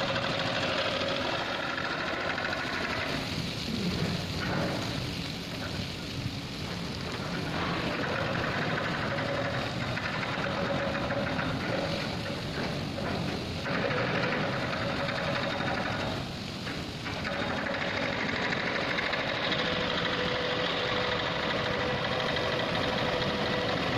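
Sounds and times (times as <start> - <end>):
hydraulic hoist running: 0.0 - 23.9
water spattering off steel gate: 0.0 - 23.9.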